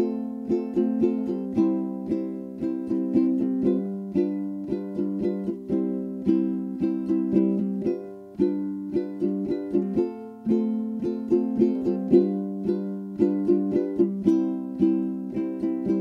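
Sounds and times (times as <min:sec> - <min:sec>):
plucked string instrumental music: 0:00.0 - 0:16.0.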